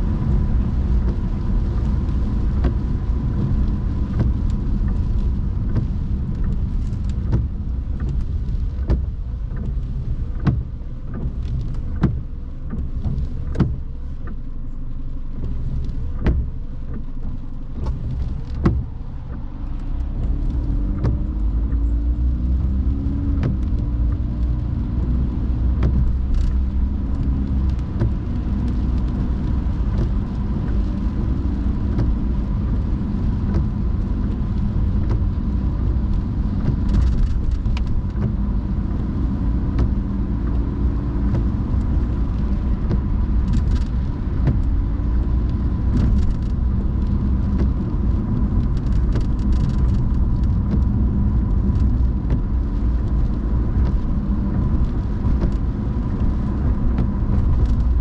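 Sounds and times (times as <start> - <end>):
car road and engine rumble: 0.0 - 58.0
windshield wipers clicking: 0.1 - 58.0.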